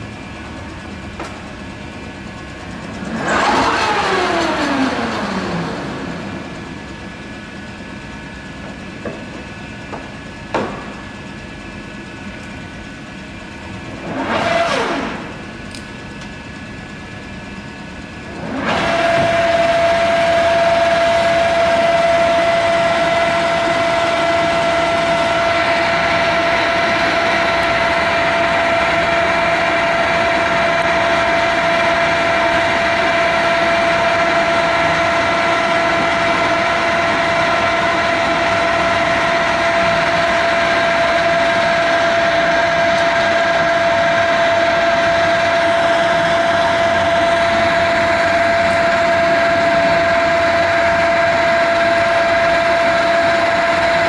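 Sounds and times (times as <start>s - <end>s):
lathe machine whine and hum: 0.0s - 54.0s.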